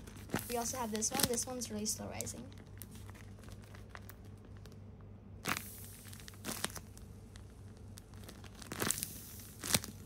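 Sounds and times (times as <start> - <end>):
paper squishy crinkling: 0.0 - 10.0.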